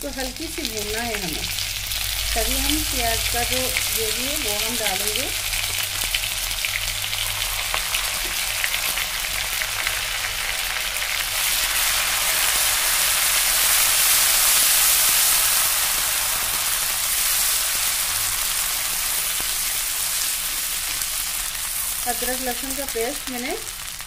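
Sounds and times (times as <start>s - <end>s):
paste sizzling in hot oil: 0.0s - 24.0s.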